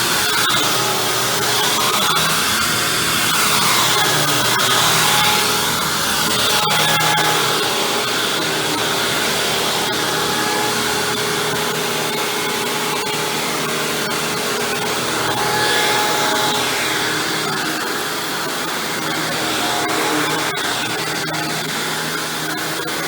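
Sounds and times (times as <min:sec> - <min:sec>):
upright vacuum cleaner running: 0:00.0 - 0:23.0.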